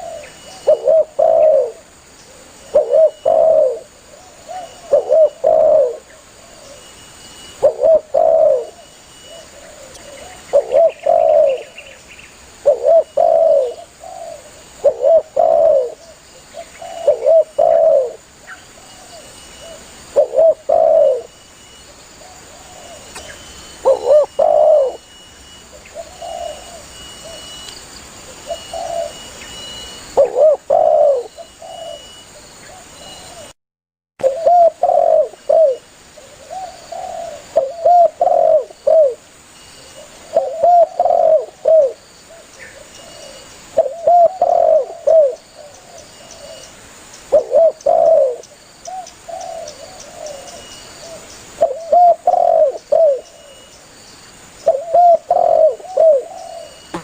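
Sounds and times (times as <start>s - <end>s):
dove cooing: 0.0s - 6.9s, 7.5s - 12.0s, 12.6s - 18.2s, 18.8s - 21.3s, 22.2s - 25.1s, 25.7s - 27.6s, 28.3s - 29.4s, 30.1s - 33.5s, 34.2s - 39.2s, 39.9s - 46.7s, 47.3s - 53.6s, 54.6s - 57.0s.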